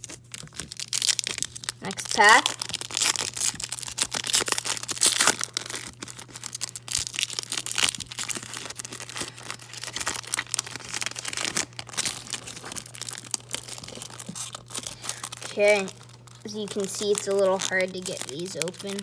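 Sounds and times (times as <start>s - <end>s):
foil wrapper crinkling and tearing: 0.0s - 19.0s.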